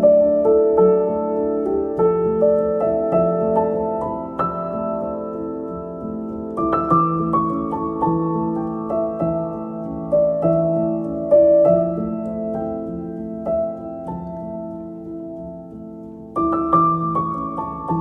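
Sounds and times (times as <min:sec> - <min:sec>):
slow solo piano piece: 0:00.0 - 0:18.0.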